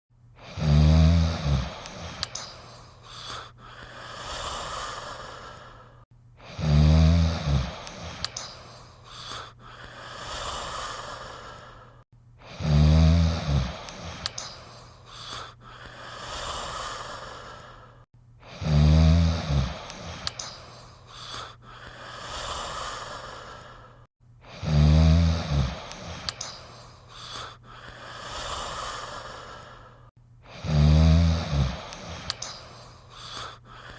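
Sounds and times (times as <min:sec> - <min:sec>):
person snoring: 0:00.4 - 0:33.9
soft breathy breath: 0:01.3 - 0:06.7, 0:07.4 - 0:12.6, 0:13.3 - 0:18.6, 0:19.6 - 0:24.7, 0:25.5 - 0:30.7, 0:31.4 - 0:33.9.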